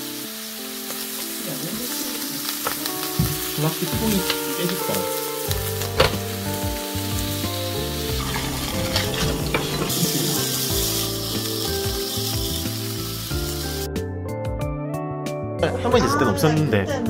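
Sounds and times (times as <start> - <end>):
meat sizzling on grill pan: 0.0 - 13.9.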